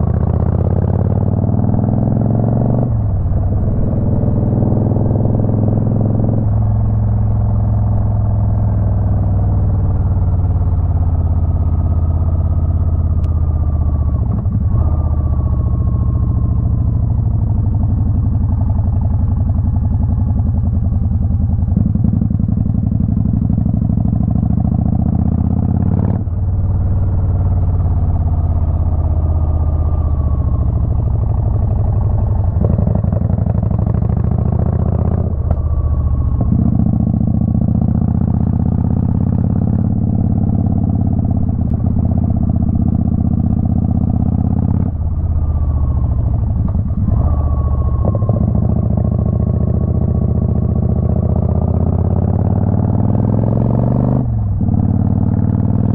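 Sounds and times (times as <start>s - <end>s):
motorcycle engine changing speed: 0.0s - 55.9s.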